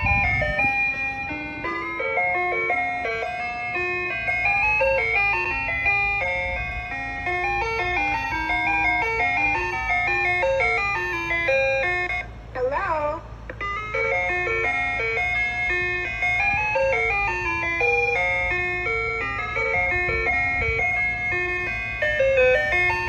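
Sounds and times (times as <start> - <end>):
ice cream truck chime melody: 0.0 - 23.0.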